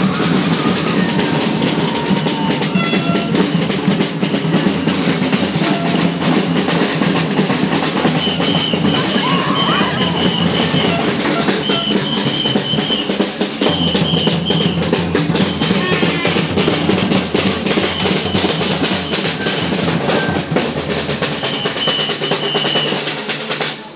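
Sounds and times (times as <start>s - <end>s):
marching drums: 0.0s - 23.9s.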